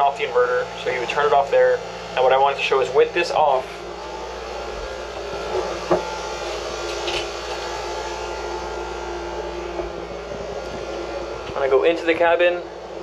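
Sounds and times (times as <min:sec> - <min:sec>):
air conditioner blower rushing: 0:00.0 - 0:13.0.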